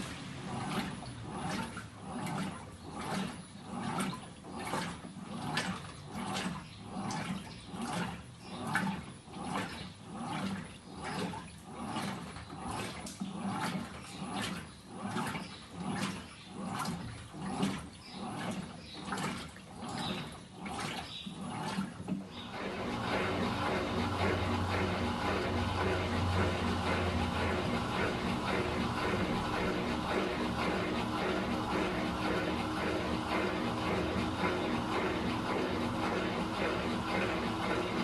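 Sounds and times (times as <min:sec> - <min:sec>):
washing machine sloshing water: 0:00.0 - 0:38.0.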